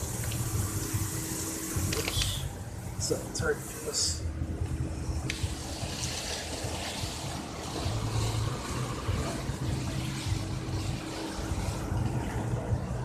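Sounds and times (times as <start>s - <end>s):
car engine idling: 0.0s - 13.0s
water spraying hiss: 0.0s - 13.0s.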